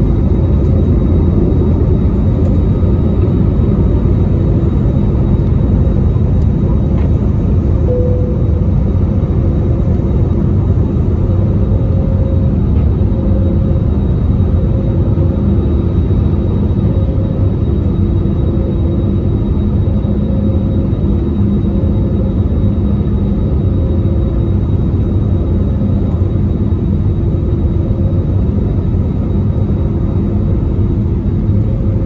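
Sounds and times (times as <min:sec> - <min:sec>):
airliner cabin engine rumble: 0:00.0 - 0:32.0
faint steady hum of tones: 0:00.0 - 0:32.0.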